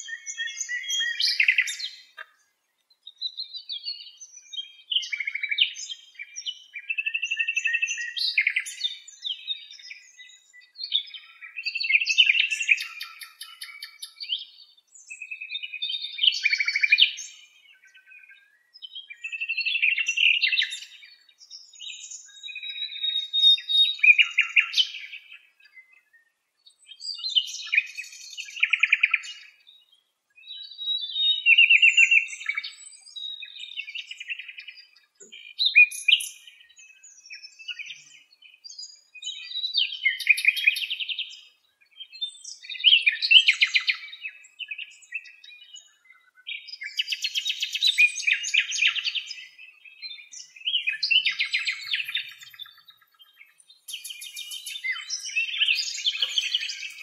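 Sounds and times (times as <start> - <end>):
songbirds singing trills: 0.0 - 57.0.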